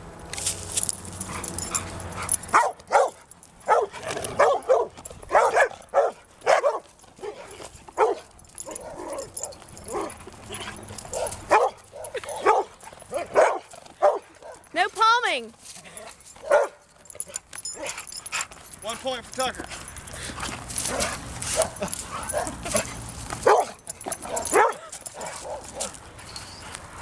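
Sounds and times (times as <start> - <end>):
dogs barking and yipping: 1.0 - 15.2, 15.8 - 27.0.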